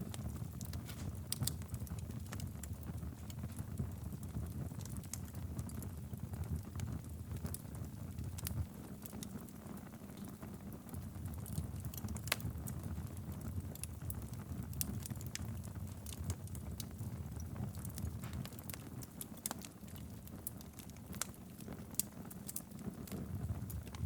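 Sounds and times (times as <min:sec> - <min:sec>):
wood fire burning: 0:00.0 - 0:24.0.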